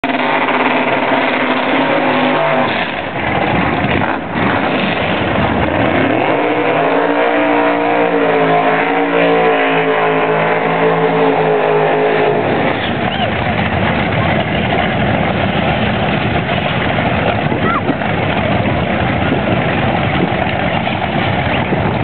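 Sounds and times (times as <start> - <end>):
drag racing engine revving: 0.0 - 22.0.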